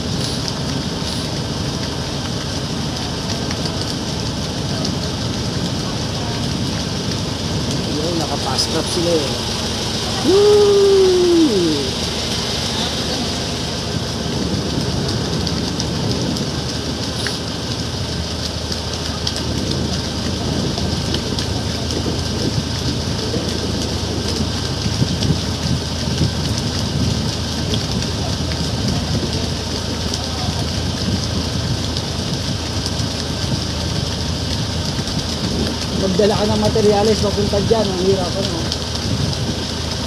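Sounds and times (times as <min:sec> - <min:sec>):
motorboat engine running: 0:00.0 - 0:40.0
water splashing along hull: 0:00.0 - 0:40.0.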